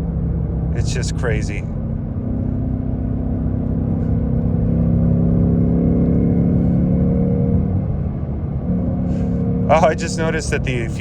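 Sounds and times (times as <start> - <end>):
car engine exhaust under load: 0.0 - 11.0.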